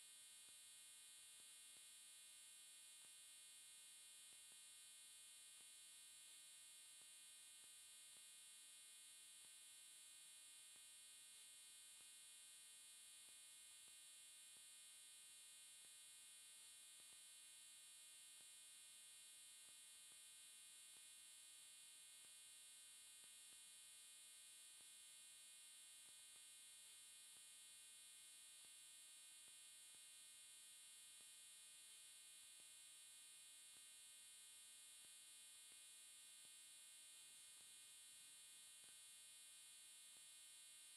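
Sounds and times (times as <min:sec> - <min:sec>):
faint electrical hum and hiss: 0:00.0 - 0:40.9.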